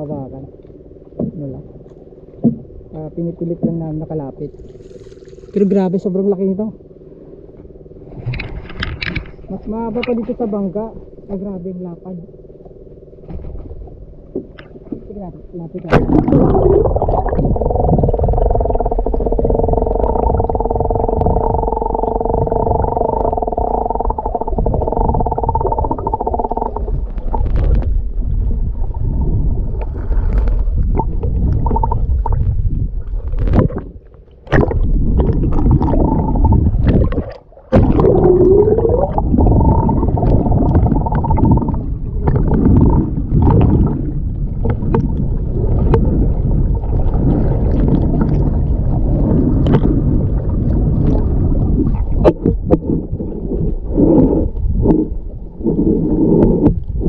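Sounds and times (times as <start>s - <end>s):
underwater rumble and gurgle: 0.0s - 57.0s.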